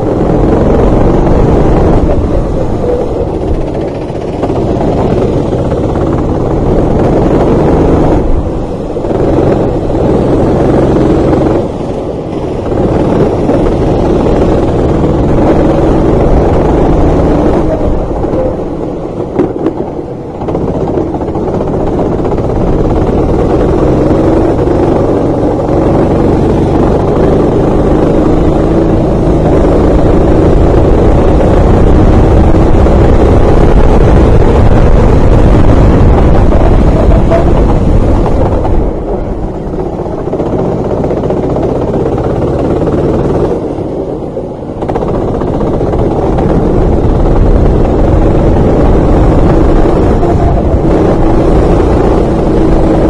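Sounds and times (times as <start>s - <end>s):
racing kart engine: 0.0s - 53.0s.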